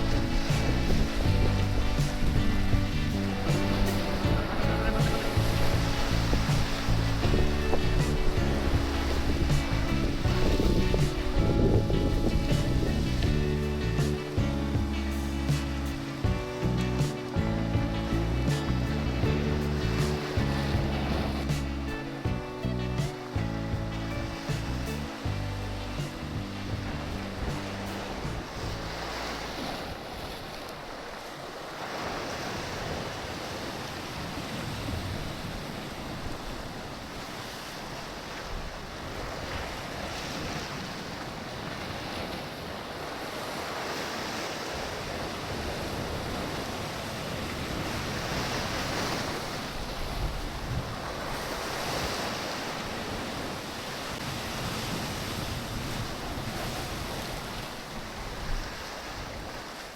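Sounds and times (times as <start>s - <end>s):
sea waves washing in: 0.0s - 59.9s
wind buffeting microphone: 0.0s - 59.9s.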